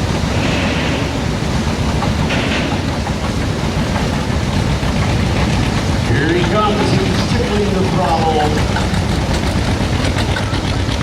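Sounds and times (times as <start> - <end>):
tractor engine roaring: 0.0 - 11.0.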